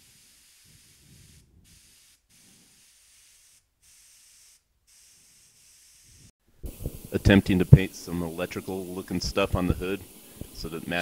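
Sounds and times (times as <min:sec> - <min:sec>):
spray gun hissing: 0:00.0 - 0:11.0.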